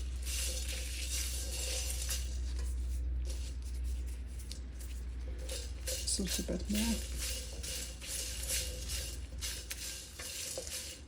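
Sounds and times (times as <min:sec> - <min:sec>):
spatula scraping a wok: 0:00.0 - 0:11.0
steady low hum: 0:00.0 - 0:11.0.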